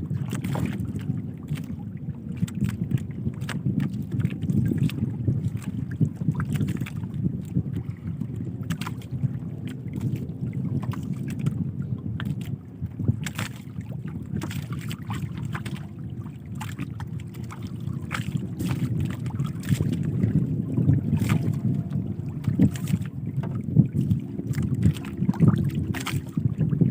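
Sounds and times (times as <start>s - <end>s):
water moving around boat: 0.0s - 26.9s
wind on microphone: 0.0s - 26.9s.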